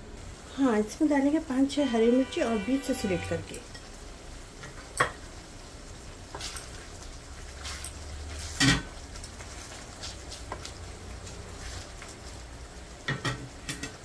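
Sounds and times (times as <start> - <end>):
faint sizzle: 0.0 - 14.0.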